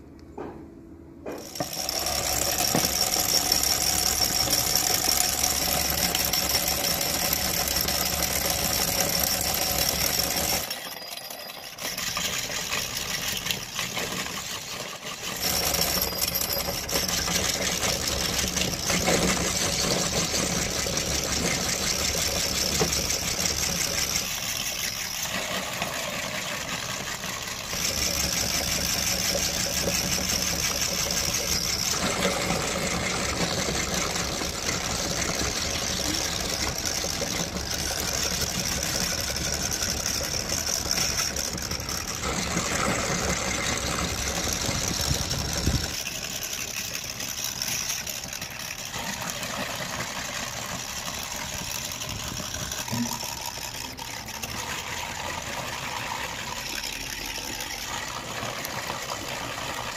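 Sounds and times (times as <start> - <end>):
meat grinder running with whine: 1.3 - 59.9.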